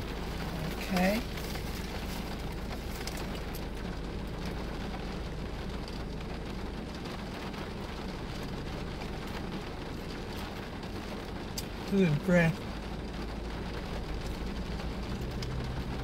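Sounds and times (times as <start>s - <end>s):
heavy rain on car roof: 0.0s - 16.0s.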